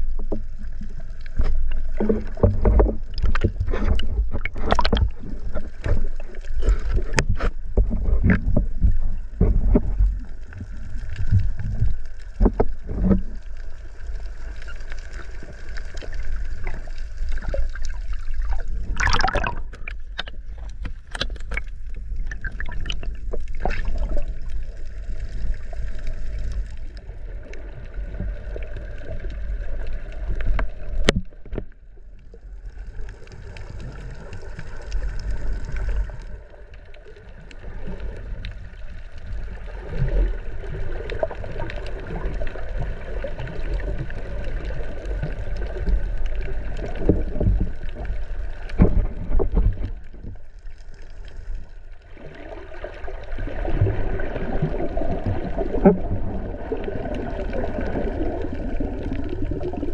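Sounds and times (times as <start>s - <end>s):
water sloshing and gurgling: 0.0s - 59.9s
water splashes: 0.0s - 59.9s.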